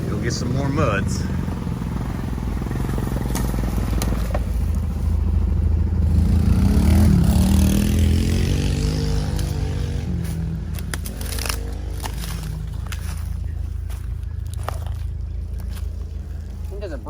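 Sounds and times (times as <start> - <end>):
small tractor engine running: 0.0 - 17.0.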